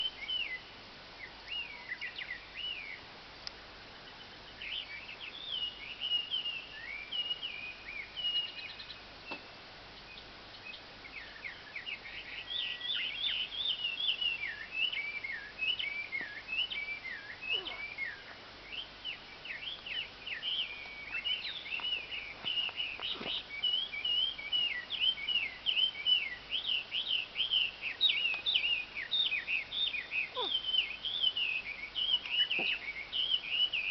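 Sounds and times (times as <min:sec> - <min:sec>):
bird chirping and twittering: 0:03.9 - 0:33.9.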